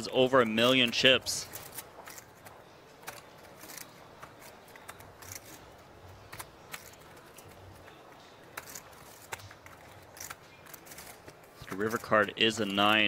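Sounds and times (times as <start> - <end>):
poker chips clicking: 0.8 - 13.0.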